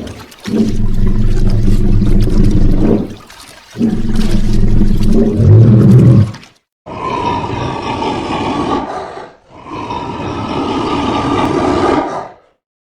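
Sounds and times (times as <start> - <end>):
crocodile growling: 0.0 - 3.2, 3.8 - 12.6.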